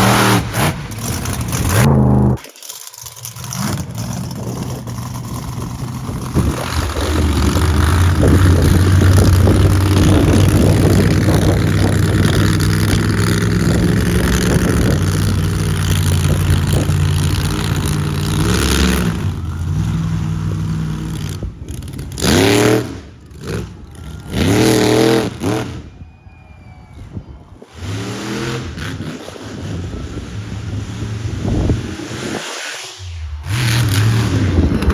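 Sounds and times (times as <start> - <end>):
truck engine revving: 0.0 - 25.9, 27.6 - 34.9.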